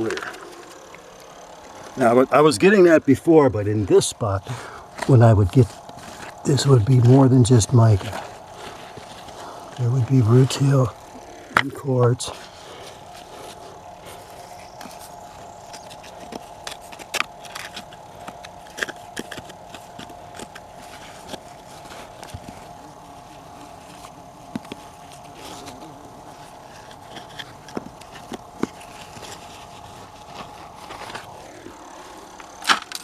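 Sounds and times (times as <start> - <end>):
buzzing hum: 0.0 - 33.0
rocks clicking and scraping: 4.9 - 33.0.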